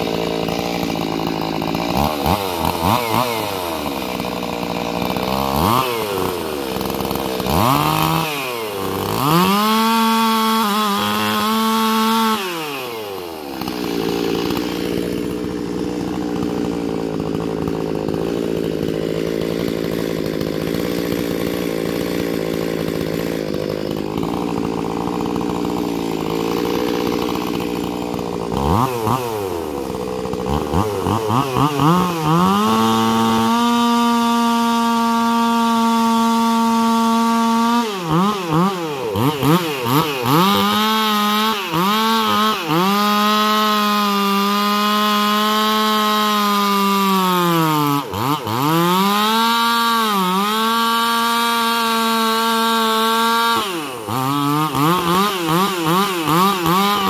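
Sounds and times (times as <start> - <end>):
chainsaw cutting wood: 0.0 - 57.0
chainsaw idling and revving: 0.0 - 57.0.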